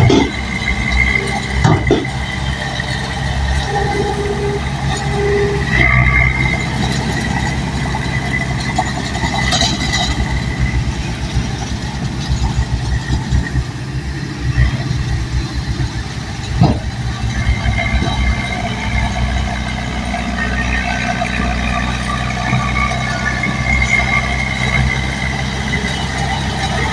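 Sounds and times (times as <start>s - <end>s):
bulldozer diesel engine droning: 0.0s - 26.9s.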